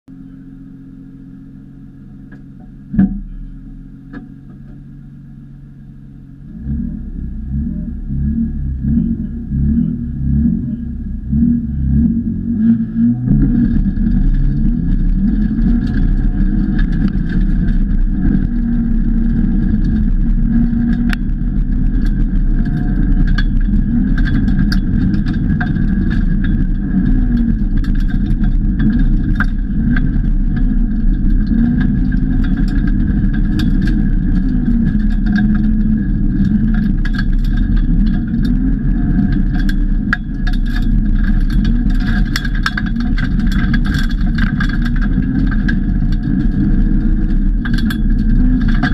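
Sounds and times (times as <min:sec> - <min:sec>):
car engine under hard load: 0:00.0 - 0:48.9
gravel ticking against car: 0:00.1 - 0:48.9.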